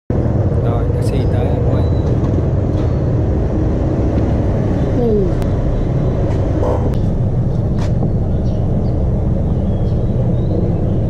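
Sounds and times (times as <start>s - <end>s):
street traffic rumble: 0.1s - 11.0s.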